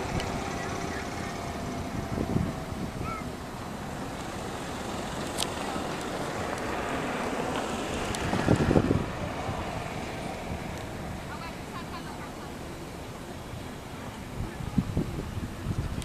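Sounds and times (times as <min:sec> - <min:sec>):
wind on microphone: 0:00.0 - 0:11.6, 0:14.0 - 0:16.0.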